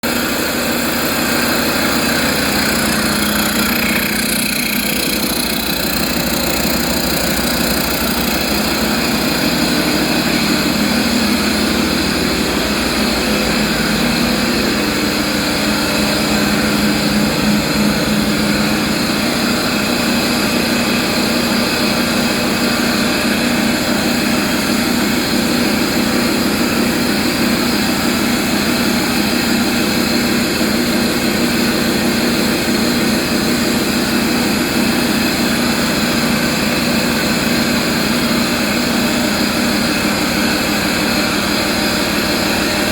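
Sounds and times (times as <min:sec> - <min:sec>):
diesel truck engine running: 0:00.0 - 0:42.9.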